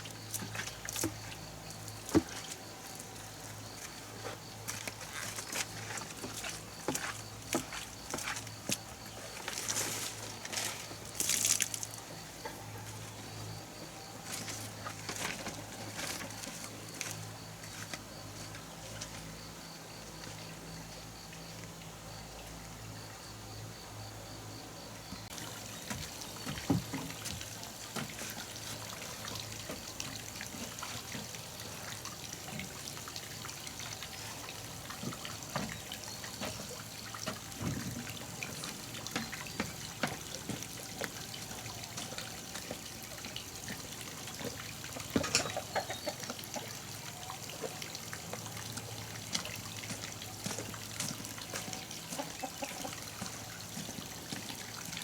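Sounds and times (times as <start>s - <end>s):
water trickling: 0.0s - 24.1s, 25.0s - 55.0s.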